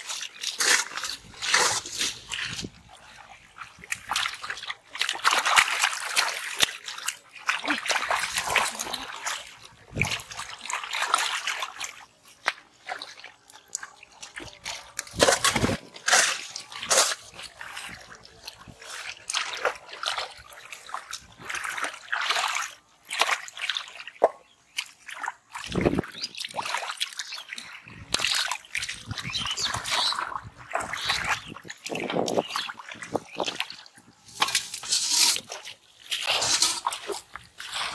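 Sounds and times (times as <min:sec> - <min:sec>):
hands splashing in muddy water: 0:00.0 - 0:37.9
scooping mud: 0:00.0 - 0:37.9.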